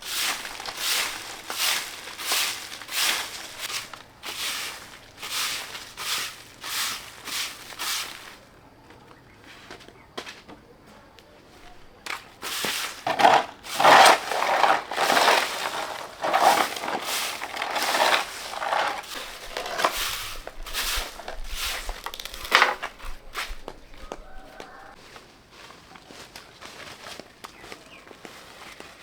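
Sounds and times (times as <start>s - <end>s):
crunching and rustling: 0.0s - 10.5s, 11.5s - 29.0s.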